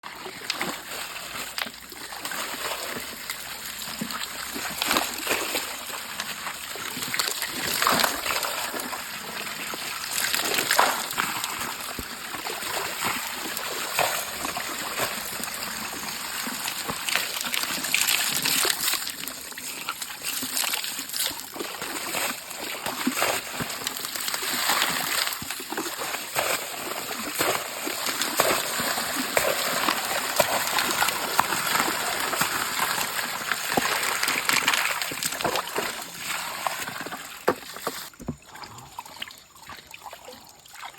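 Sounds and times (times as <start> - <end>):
water splashing and sloshing: 0.0 - 40.9.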